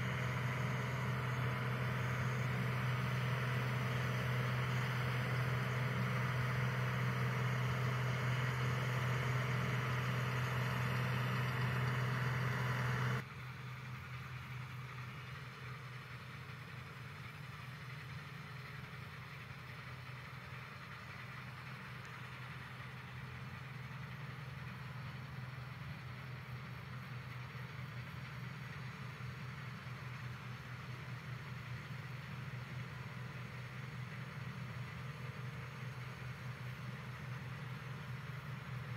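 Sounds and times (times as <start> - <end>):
combine harvester engine hum: 0.0 - 38.9.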